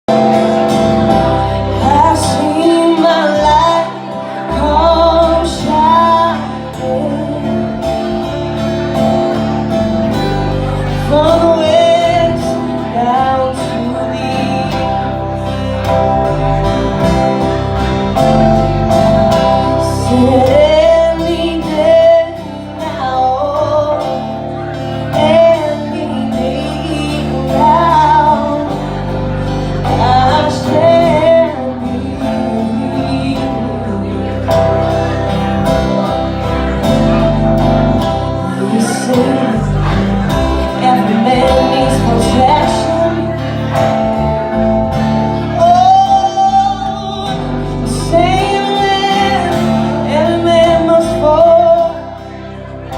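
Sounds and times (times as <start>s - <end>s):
acoustic guitar accompaniment: 0.0s - 52.9s
person singing with vibrato: 0.0s - 52.9s.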